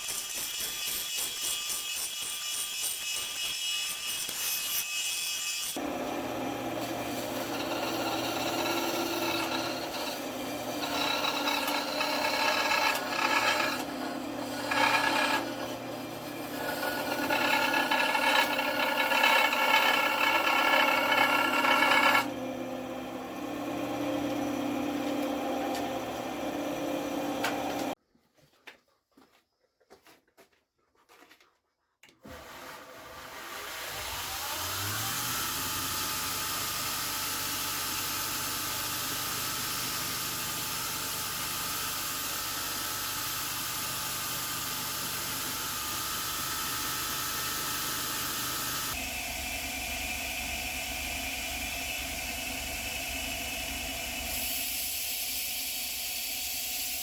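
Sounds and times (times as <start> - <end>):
power tool grinding: 0.0 - 28.0, 32.2 - 57.0.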